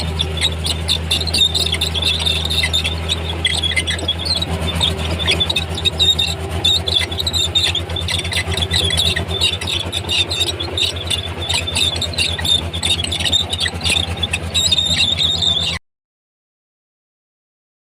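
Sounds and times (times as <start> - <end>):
bulldozer diesel engine running: 0.0 - 15.8
steel tracks squealing: 0.0 - 15.8.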